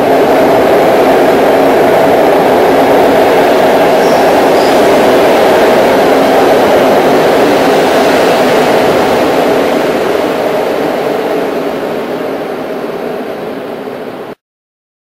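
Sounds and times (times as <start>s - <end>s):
train wheels rumbling on rails: 0.0s - 14.4s.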